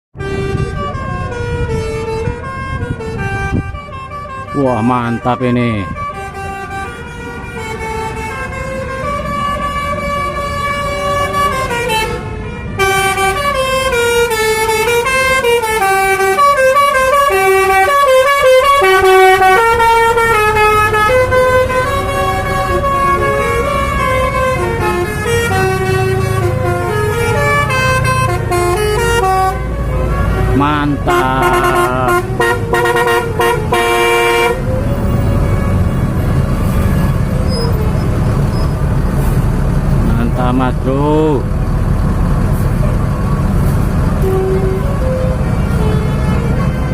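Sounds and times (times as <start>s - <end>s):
multi-tone air horn melody: 0.2s - 38.0s, 44.2s - 46.9s
bus engine running: 5.8s - 46.9s.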